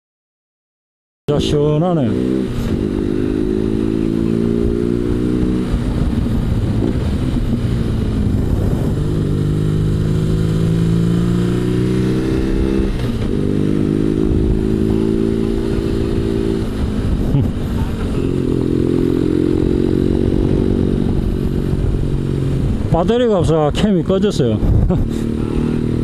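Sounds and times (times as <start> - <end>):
motorcycle engine running: 1.4 - 26.0
wind rushing past: 2.2 - 23.0, 24.5 - 26.0.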